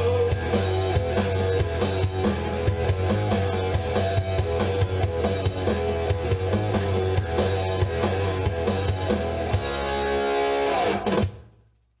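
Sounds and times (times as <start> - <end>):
rock band playing: 0.0 - 11.3.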